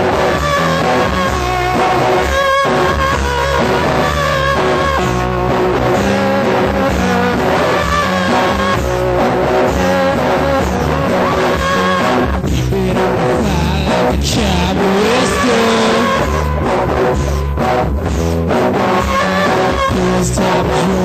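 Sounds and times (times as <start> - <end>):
post-punk rock song with vocals: 0.0 - 21.0.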